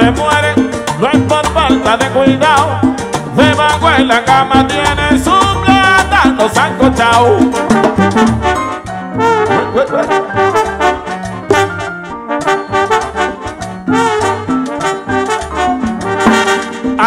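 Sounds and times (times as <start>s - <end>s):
bass: 0.0s - 17.0s
percussion: 0.0s - 17.0s
trombones and trumpets melody: 0.0s - 17.0s.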